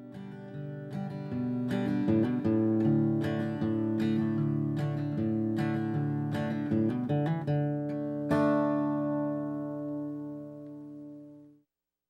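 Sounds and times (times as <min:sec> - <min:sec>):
plucked string music: 0:00.0 - 0:11.6.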